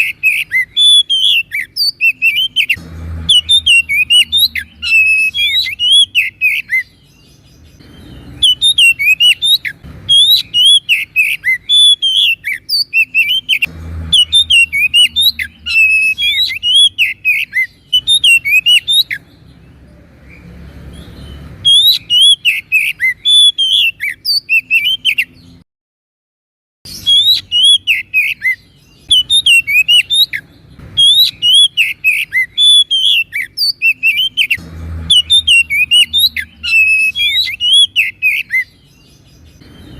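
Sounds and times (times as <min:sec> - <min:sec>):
songbird whistling and chirping: 0:00.0 - 0:25.6, 0:26.9 - 0:39.9.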